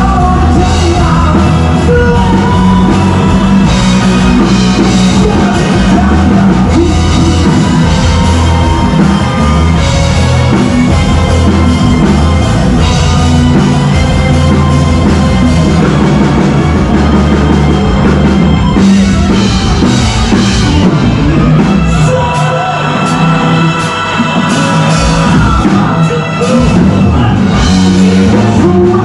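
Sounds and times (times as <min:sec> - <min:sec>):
drum kit beat: 0:00.0 - 0:29.0
live rock band playing: 0:00.0 - 0:29.0.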